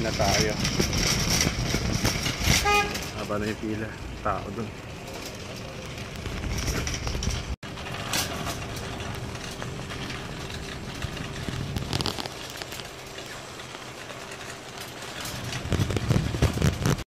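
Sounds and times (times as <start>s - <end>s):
shopping cart rolling on asphalt: 0.0s - 17.0s.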